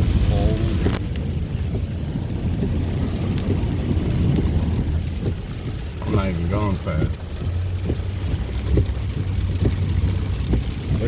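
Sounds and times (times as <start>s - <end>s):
tyres rumbling through water: 0.0s - 11.0s.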